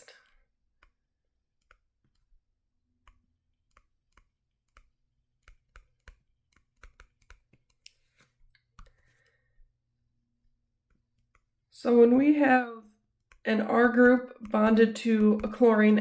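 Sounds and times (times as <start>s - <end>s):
faint irregular clicks: 0.0s - 9.8s, 10.8s - 11.6s, 13.0s - 16.0s.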